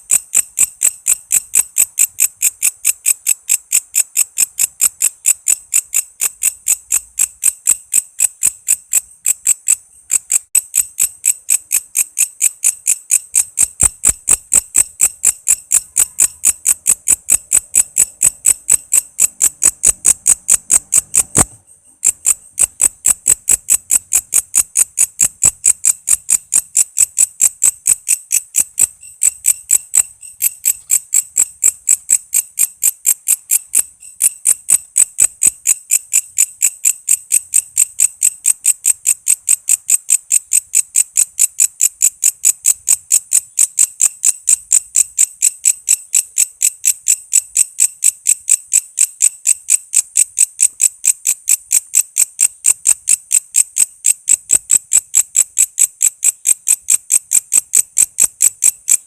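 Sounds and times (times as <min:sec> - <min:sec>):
katydid chirping: 0:00.0 - 0:59.0.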